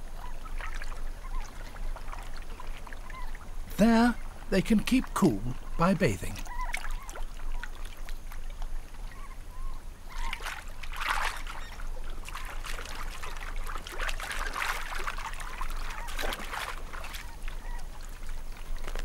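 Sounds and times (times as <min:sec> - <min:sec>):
birds splashing in water: 0:00.0 - 0:19.0.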